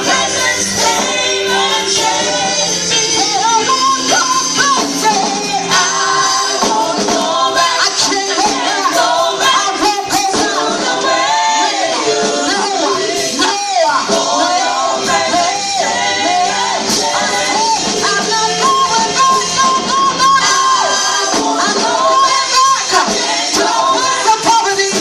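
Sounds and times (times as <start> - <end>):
band accompaniment: 0.0 - 25.0
choir singing gospel song: 0.0 - 25.0.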